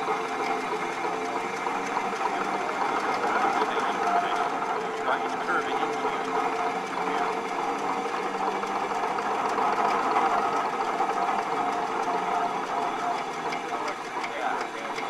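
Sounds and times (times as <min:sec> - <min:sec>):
crane winch machinery running: 0:00.0 - 0:15.0.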